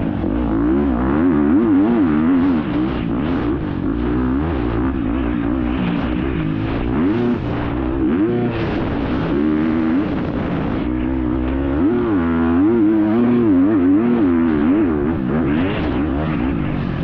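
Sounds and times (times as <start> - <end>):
constant rushing noise: 0.0 - 17.0
motorcycle engine revving: 0.0 - 17.0.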